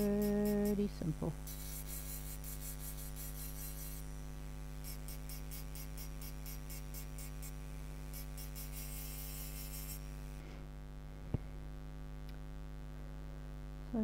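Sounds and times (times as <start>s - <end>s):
steady electric hum: 0.0s - 14.0s.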